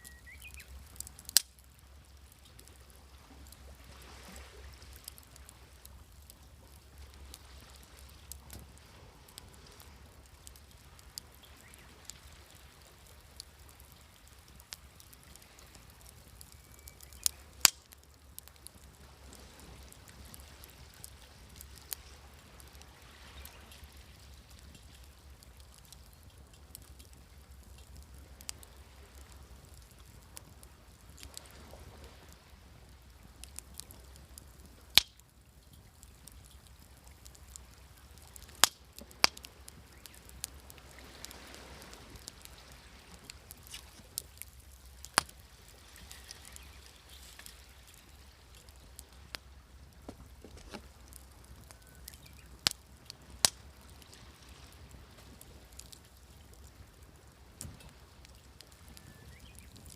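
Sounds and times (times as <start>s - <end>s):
campfire crackling and popping: 0.0s - 59.9s
sea waves: 2.1s - 17.7s, 18.5s - 26.0s, 26.6s - 35.0s, 36.2s - 59.0s.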